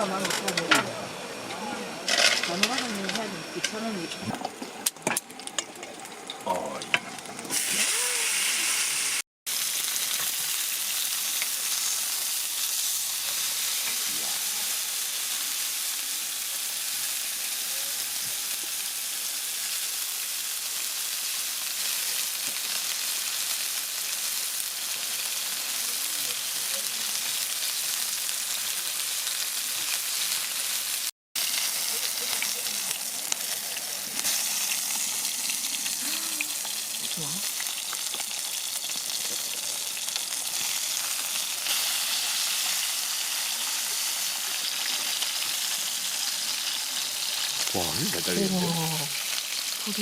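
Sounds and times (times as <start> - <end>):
meat sizzling on a grill: 0.0 - 50.0.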